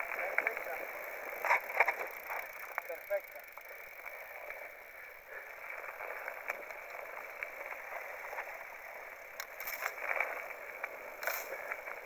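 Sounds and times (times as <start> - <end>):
bike clicks and rattles: 0.0 - 12.0
tyres crunching over gravel: 0.0 - 12.0.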